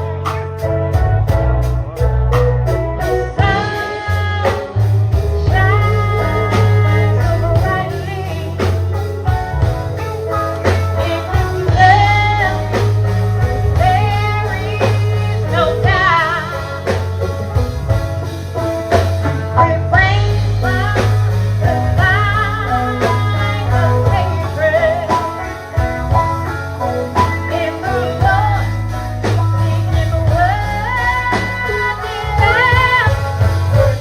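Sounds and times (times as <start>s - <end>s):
gospel group singing with band: 0.0s - 34.0s.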